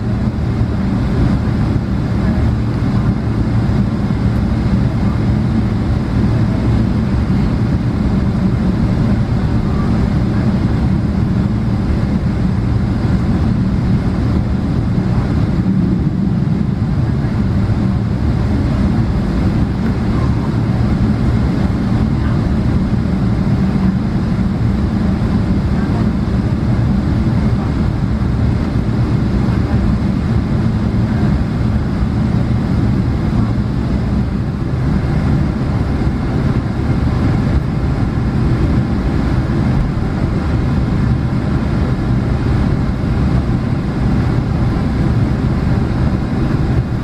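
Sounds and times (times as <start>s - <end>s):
jet engines rumbling in cabin: 0.0s - 47.0s.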